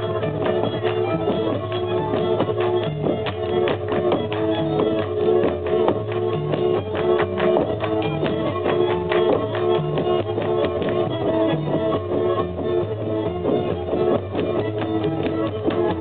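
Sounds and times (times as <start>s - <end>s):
double bass line: 0.0s - 16.0s
fiddle melody: 0.0s - 16.0s.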